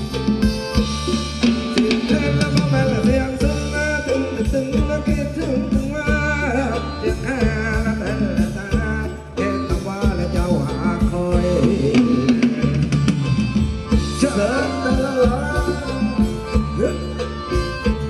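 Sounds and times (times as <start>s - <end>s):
drum beat: 0.0s - 9.1s, 9.7s - 18.0s
bass: 0.0s - 18.0s
person singing: 1.6s - 13.4s, 14.0s - 18.0s.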